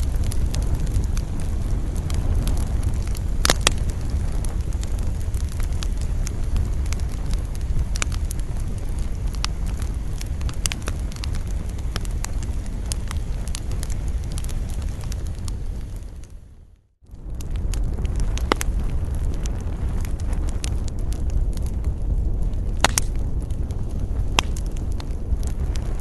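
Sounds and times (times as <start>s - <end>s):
campfire crackling and popping: 0.0s - 26.0s
low wind rumble: 0.0s - 26.0s.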